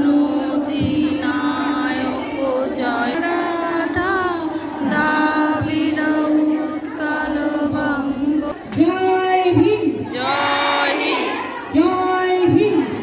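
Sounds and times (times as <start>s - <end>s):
girls singing in unison: 0.0s - 8.6s, 10.1s - 13.0s.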